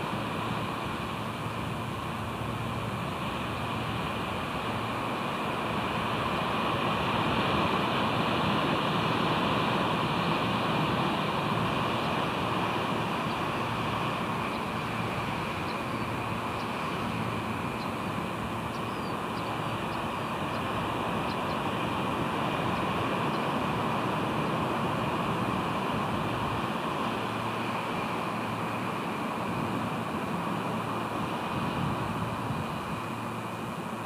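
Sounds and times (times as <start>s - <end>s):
surf rushing: 0.0s - 34.0s
wind on microphone: 0.0s - 34.0s.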